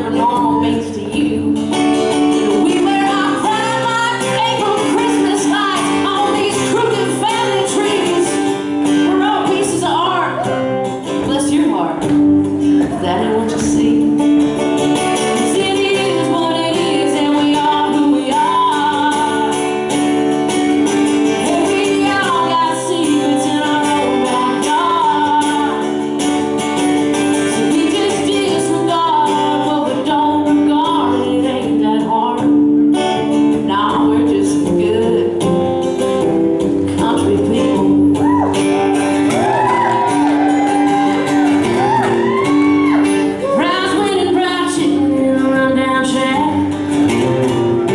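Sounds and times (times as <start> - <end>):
person singing: 0.0 - 19.9, 21.2 - 26.2, 27.3 - 36.2, 36.8 - 47.9
live country band with guitar: 0.0 - 47.9.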